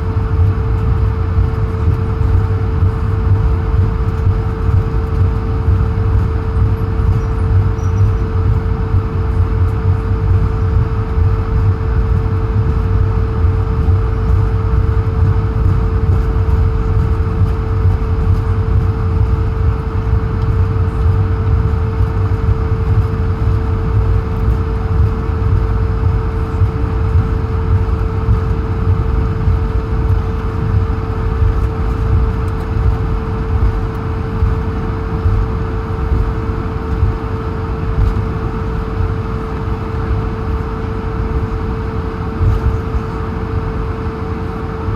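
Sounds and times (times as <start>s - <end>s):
low cabin rumble: 0.0s - 44.9s
mid-pitched engine hum: 0.0s - 44.9s.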